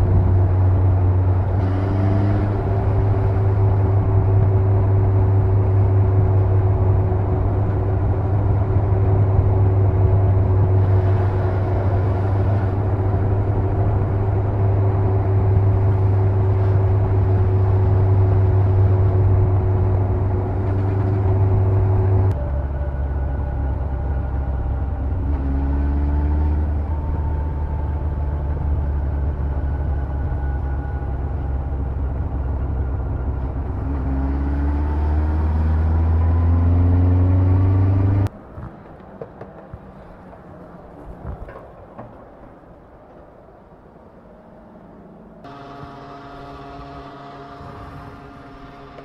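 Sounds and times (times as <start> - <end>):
motorcycle engine accelerating: 0.0 - 38.3, 45.4 - 49.0.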